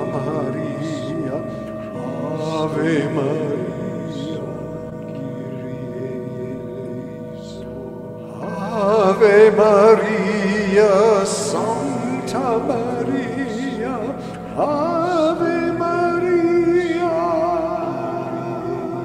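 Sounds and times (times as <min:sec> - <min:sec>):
man singing wordless tones: 0:00.0 - 0:19.0
singing bowls ringing: 0:00.0 - 0:19.0.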